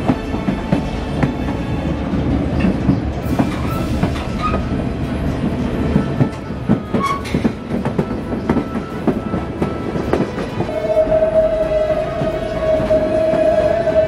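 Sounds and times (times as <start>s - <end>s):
wheels clacking on rail joints: 0.0s - 13.8s
train rumbling: 0.0s - 14.0s.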